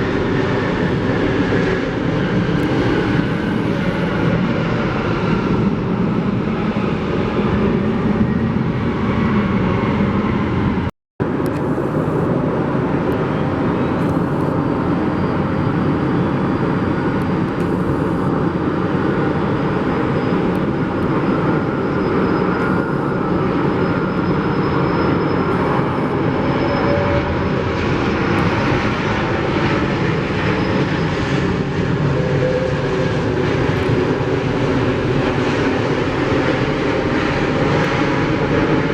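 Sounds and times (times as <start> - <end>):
high turbine whine: 0.0 - 38.9
jet engines roaring: 0.0 - 38.9.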